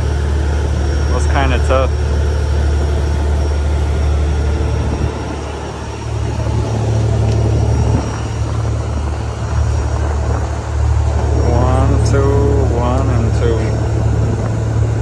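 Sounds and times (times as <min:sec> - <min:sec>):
boat diesel engines droning: 0:00.0 - 0:15.0
wind and water wash: 0:00.0 - 0:15.0.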